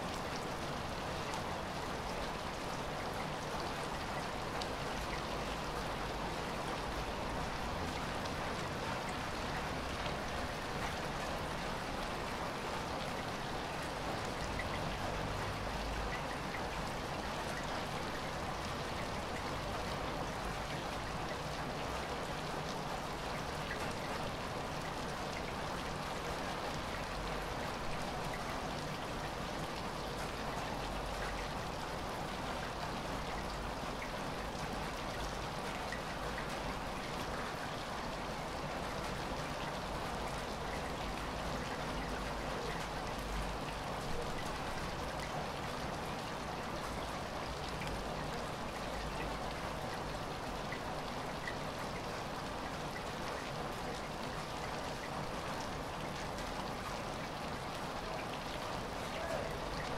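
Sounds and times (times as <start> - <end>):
light rain pattering: 0.0 - 59.9.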